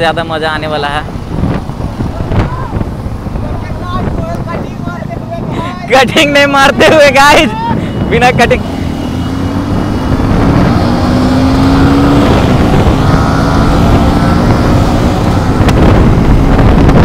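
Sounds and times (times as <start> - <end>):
road noise: 0.0 - 17.0
wind noise: 0.0 - 17.0.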